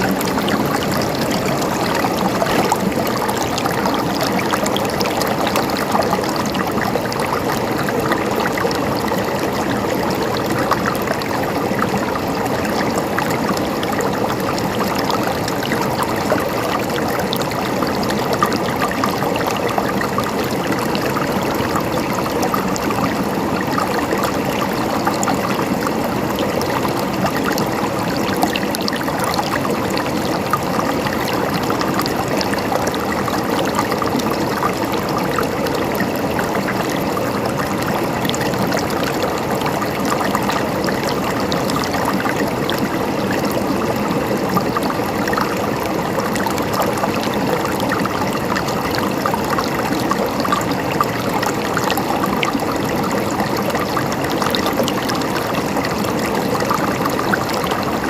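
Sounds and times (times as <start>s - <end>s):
river flowing over stones: 0.0s - 58.0s
small water splashes: 0.0s - 58.0s.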